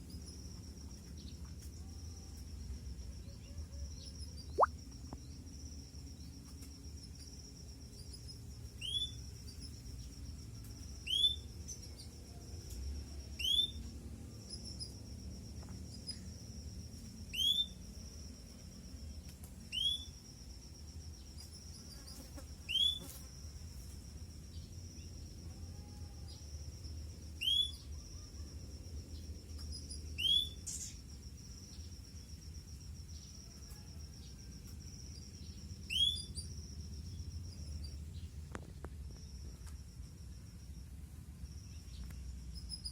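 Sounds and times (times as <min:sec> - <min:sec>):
high-pitched insect trill: 0:00.0 - 0:42.9.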